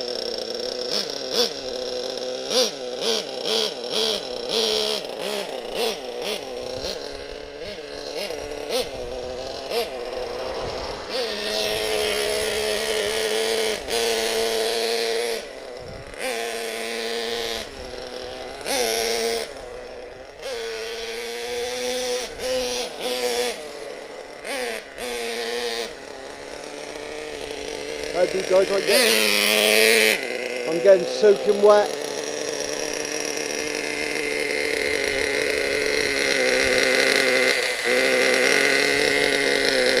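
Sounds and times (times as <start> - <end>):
small nitro engine revving: 0.0 - 40.0.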